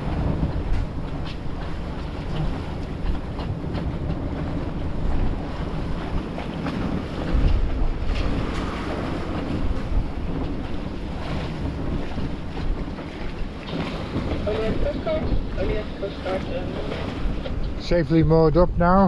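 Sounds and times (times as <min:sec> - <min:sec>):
waves rushing: 0:00.0 - 0:19.0
wind buffeting microphone: 0:00.0 - 0:19.0.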